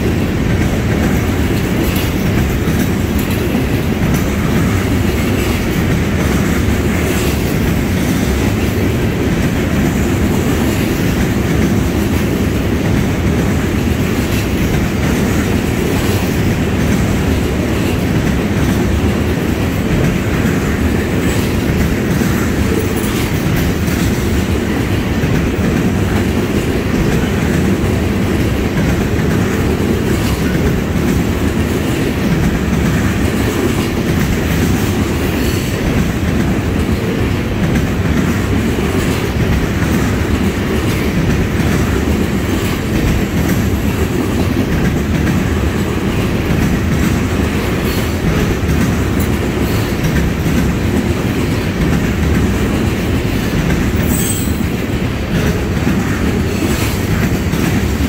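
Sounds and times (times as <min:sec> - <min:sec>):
train wheels rumbling on rail: 0:00.0 - 0:58.0
wheels clacking over rail joints: 0:00.0 - 0:58.0.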